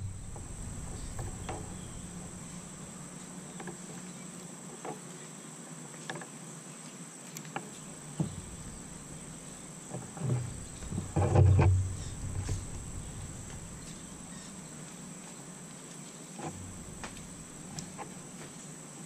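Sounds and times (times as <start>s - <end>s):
high-pitched insect chorus: 0.0s - 4.6s, 7.6s - 19.0s.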